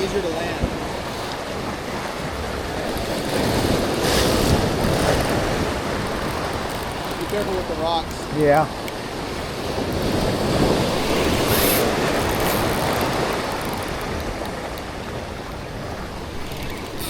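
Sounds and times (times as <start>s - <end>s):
wind on microphone: 0.0s - 7.3s, 8.2s - 17.0s
ocean waves washing on rocks: 0.0s - 17.0s.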